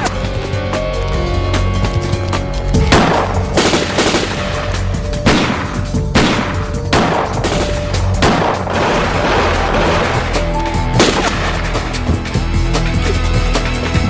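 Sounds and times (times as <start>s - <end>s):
dramatic background music: 0.0s - 14.0s.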